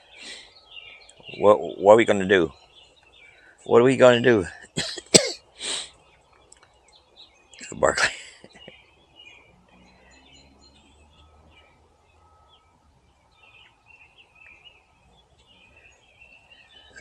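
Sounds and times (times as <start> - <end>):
low outdoor background noise: 0.0 - 17.0
songbirds chirping: 0.0 - 17.0.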